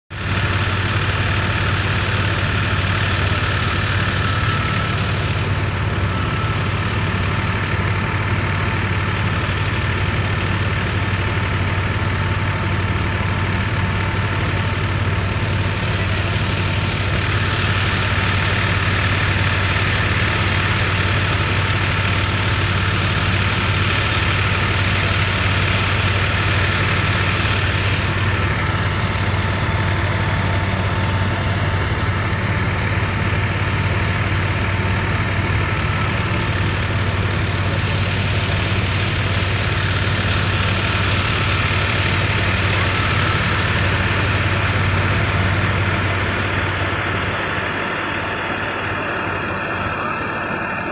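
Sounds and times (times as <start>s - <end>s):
engine drone: 0.0s - 50.9s.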